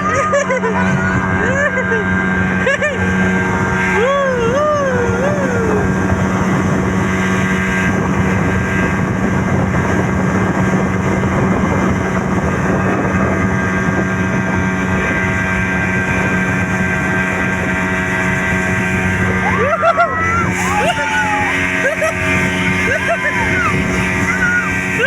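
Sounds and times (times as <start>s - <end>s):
speedboat engine droning: 0.0s - 25.0s.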